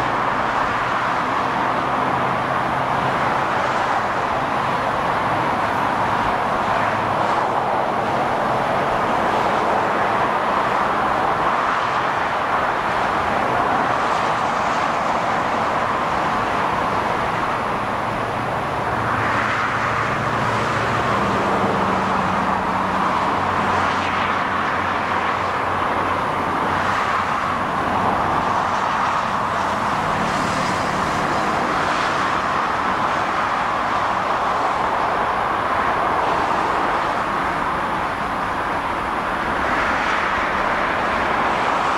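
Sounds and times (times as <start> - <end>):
freeway traffic hiss: 0.0 - 41.9
heavy vehicle engine drone: 0.0 - 41.9
vehicles passing: 0.0 - 41.9.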